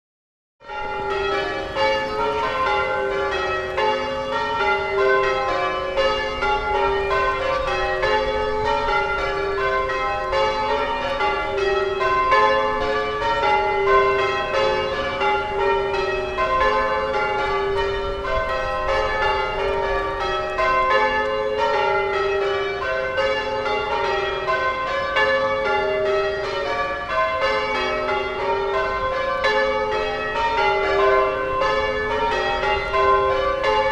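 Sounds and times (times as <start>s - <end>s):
church bells change ringing: 0.6s - 33.9s.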